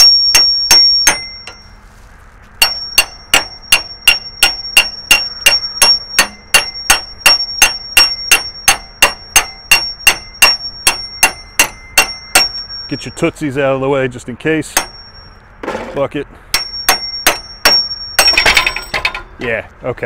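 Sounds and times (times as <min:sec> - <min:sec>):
hammer striking metal: 0:00.0 - 0:01.6, 0:02.6 - 0:13.3, 0:14.7 - 0:15.8, 0:16.5 - 0:19.3.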